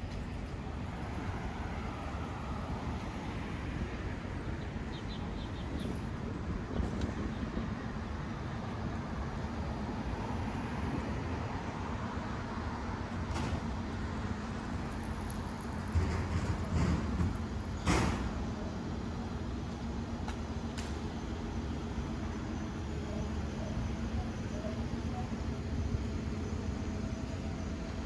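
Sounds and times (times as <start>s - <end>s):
passing traffic hum: 0.0s - 28.0s.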